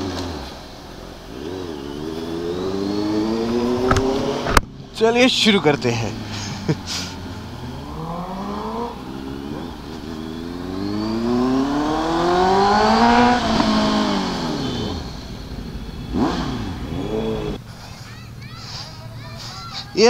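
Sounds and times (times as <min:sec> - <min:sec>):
motorcycle engine revving: 0:00.0 - 0:05.2, 0:05.9 - 0:17.7.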